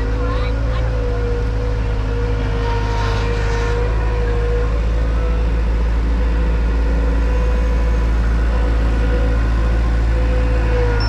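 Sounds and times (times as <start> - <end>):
farm machine engine running: 0.0 - 11.0.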